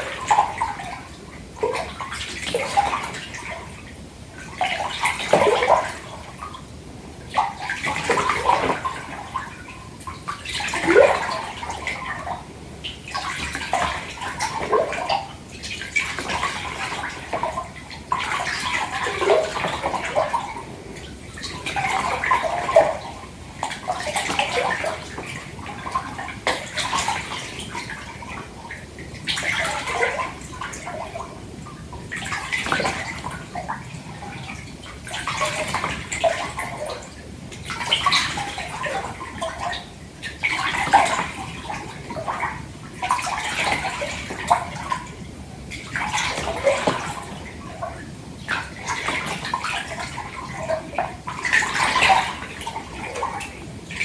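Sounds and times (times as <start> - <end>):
water sloshing in bathtub: 0.0 - 54.0.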